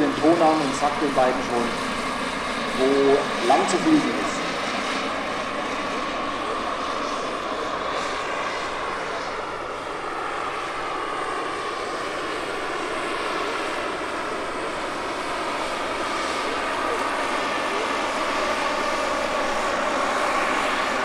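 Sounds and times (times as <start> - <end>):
high turbine whine: 0.0 - 21.0.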